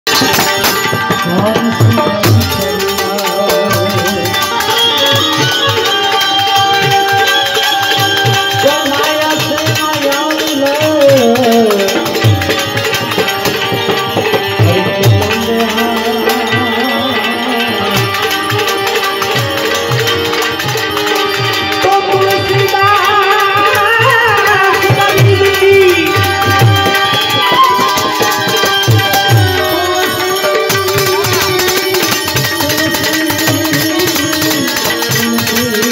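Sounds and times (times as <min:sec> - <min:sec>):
hand cymbals: 0:00.1 - 0:35.9
sliding banjo melody: 0:00.1 - 0:35.9.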